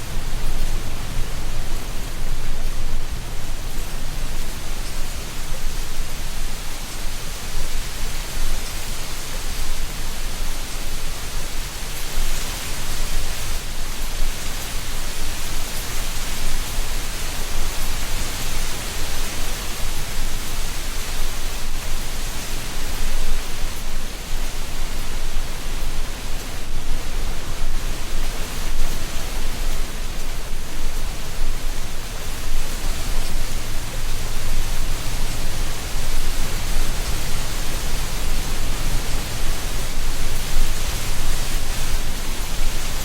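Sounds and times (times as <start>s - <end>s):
wind rustling dry leaves: 0.0s - 43.0s.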